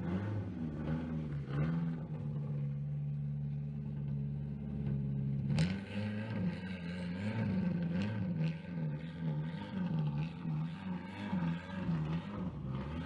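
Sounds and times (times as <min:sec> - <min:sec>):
car engine idling with wavering pitch: 0:00.0 - 0:13.0.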